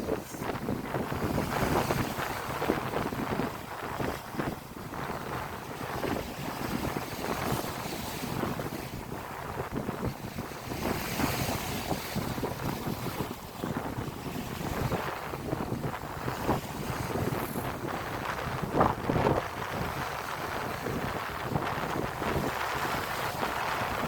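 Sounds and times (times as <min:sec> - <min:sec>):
sea waves washing: 0:00.0 - 0:24.0
wind buffeting microphone: 0:00.0 - 0:24.0.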